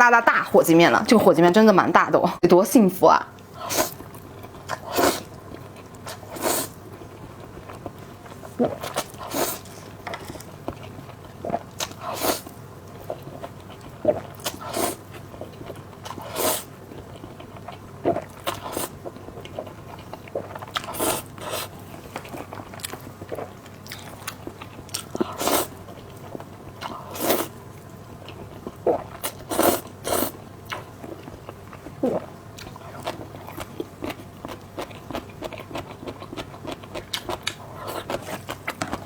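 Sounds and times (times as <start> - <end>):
close-miked eating and chewing: 3.4 - 39.0.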